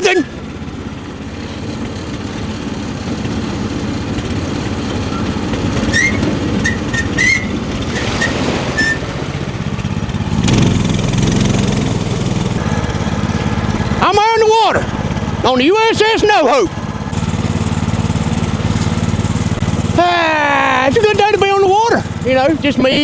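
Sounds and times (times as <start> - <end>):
small engine running: 0.0 - 8.6, 9.2 - 23.0.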